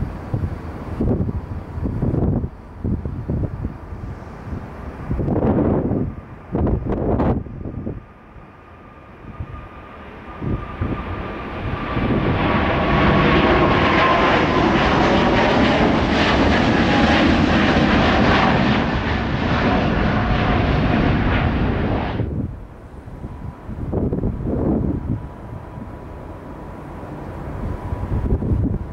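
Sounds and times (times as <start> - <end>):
jet engines at takeoff thrust: 0.0 - 28.9.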